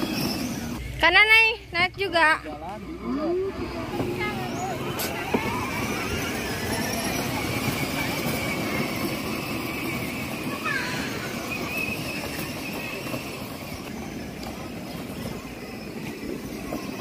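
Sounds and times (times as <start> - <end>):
small electric motor: 0.0 - 1.0, 2.4 - 17.0
toy car wheels rumbling on bricks: 0.0 - 1.0, 3.6 - 17.0.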